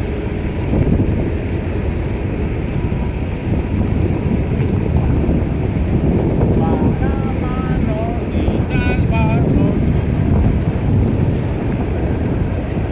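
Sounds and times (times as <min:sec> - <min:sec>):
freight train rumbling on rails: 0:00.0 - 0:12.9.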